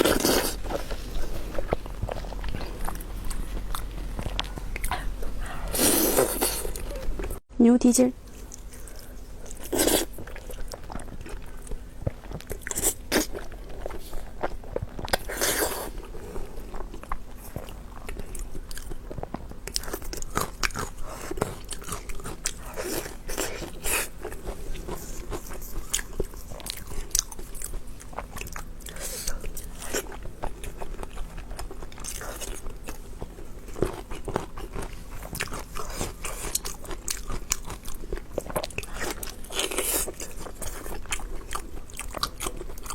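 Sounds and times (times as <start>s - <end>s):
wet chewing and crunching: 0.0s - 7.4s, 8.3s - 42.9s.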